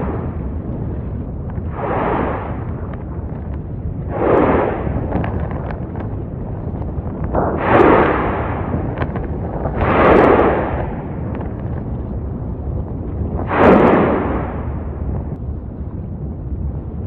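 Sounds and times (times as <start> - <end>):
loud volcanic booms: 0.0 - 17.0
low rumble: 0.0 - 17.0.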